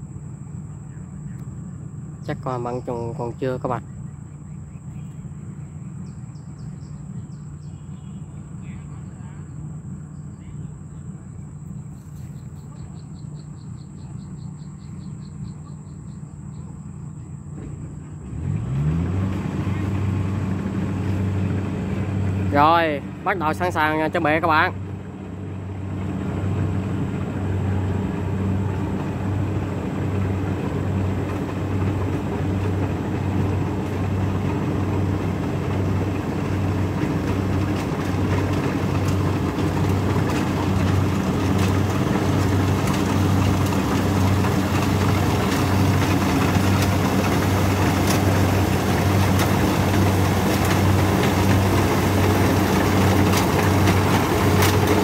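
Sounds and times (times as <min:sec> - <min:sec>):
combine harvester engine hum: 0:00.0 - 0:55.0.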